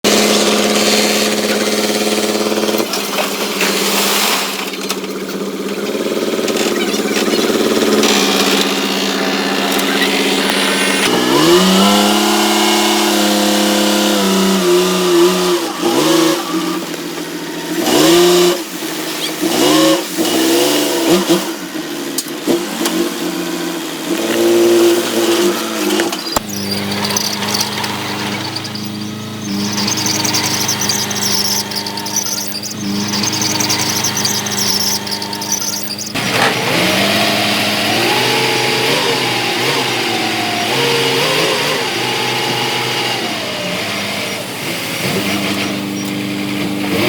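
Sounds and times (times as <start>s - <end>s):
diesel engine running and revving: 0.0s - 47.0s.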